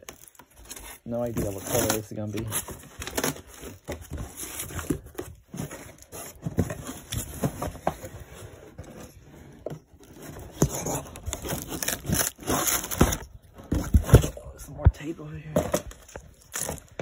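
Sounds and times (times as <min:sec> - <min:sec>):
cardboard flaps scraping: 0:00.3 - 0:14.6.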